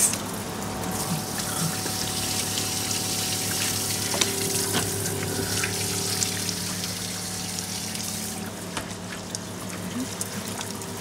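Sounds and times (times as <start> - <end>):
pump hum: 0.0 - 11.0
water running from outlet: 0.0 - 11.0.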